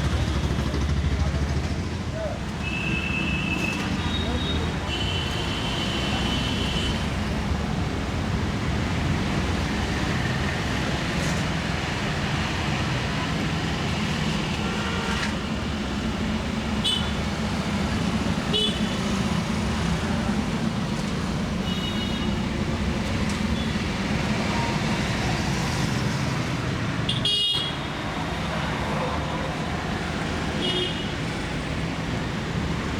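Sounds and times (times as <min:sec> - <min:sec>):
street traffic rumble: 0:00.0 - 0:32.9.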